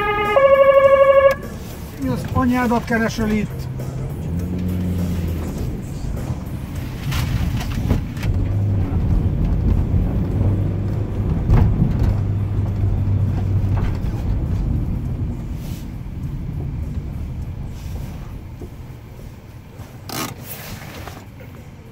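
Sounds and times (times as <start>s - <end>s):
car engine and tyre noise: 0.0s - 21.9s.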